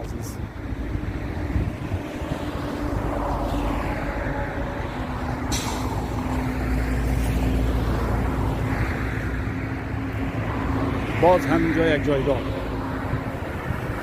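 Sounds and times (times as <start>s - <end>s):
heavy vehicle engine hum: 0.0s - 14.0s
motorway traffic rumble: 0.0s - 14.0s.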